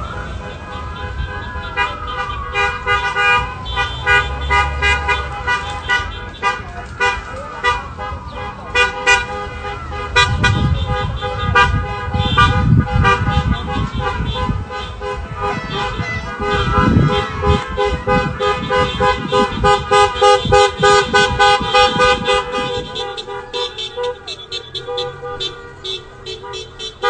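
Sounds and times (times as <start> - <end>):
car horns honking: 0.0 - 27.0.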